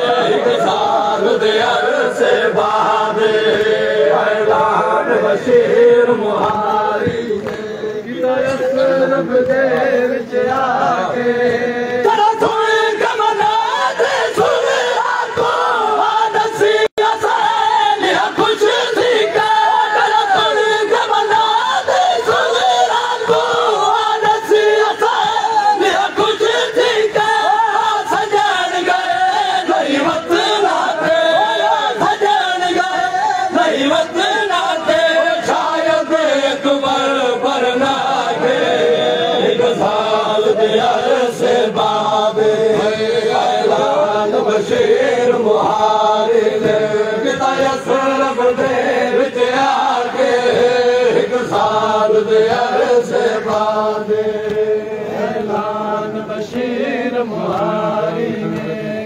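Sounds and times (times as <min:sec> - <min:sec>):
crowd of men chanting a lament: 0:00.0 - 0:59.0.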